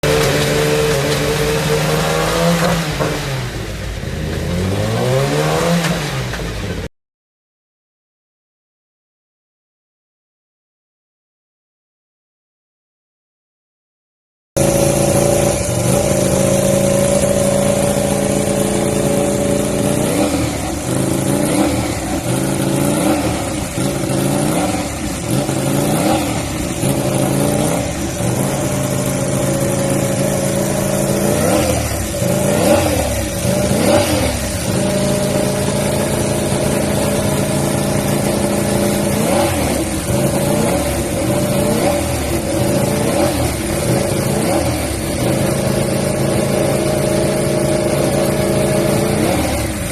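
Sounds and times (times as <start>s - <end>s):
motorcycle engine revving: 0.0s - 6.9s, 14.6s - 49.9s.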